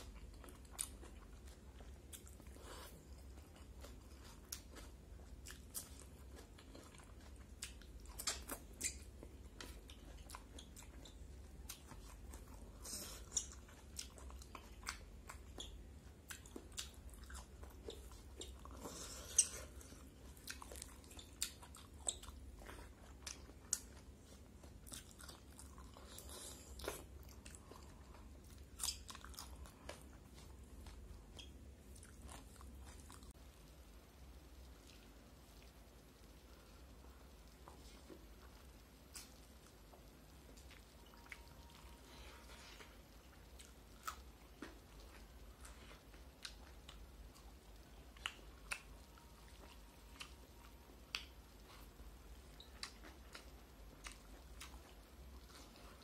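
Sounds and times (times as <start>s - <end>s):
person chewing and biting food: 0.0s - 33.4s, 37.6s - 56.0s.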